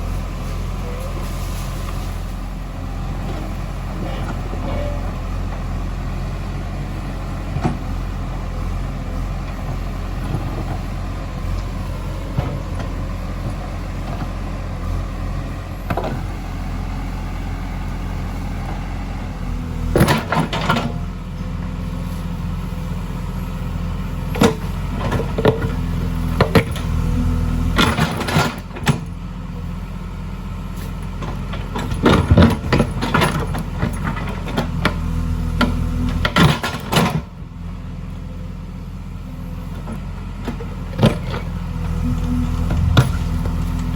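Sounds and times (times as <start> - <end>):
backhoe diesel engine running: 0.0 - 43.9.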